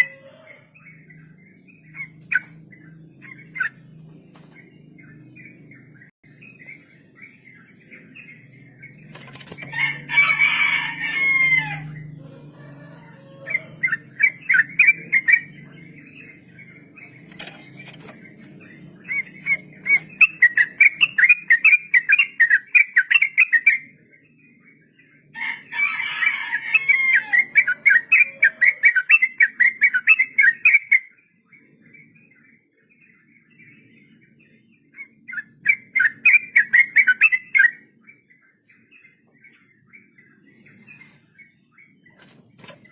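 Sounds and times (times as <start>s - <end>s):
bulbul singing rapid phrases: 0.7s - 12.2s, 13.5s - 25.7s, 27.3s - 42.9s.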